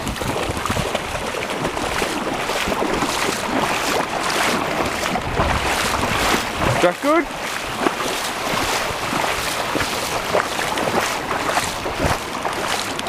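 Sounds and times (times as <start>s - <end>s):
dog splashing in shallow water: 0.0s - 13.0s
small waves at shore: 0.0s - 13.0s
wind on microphone: 0.0s - 13.0s.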